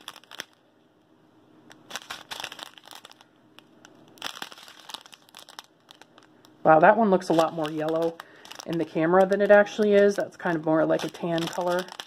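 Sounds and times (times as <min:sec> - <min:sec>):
plastic bags crinkling: 0:00.0 - 0:00.7, 0:01.7 - 0:12.0.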